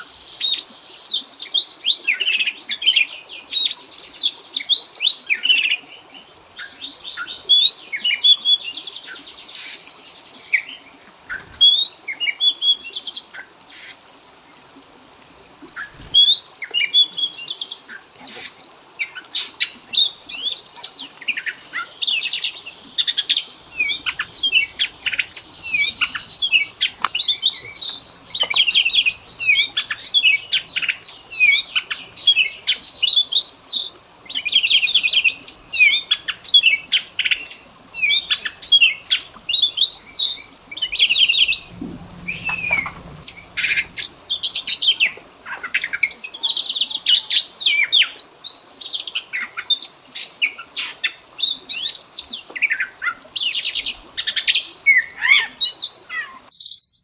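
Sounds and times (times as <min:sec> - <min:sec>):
bird singing: 0:00.0 - 0:14.5, 0:15.7 - 0:49.5.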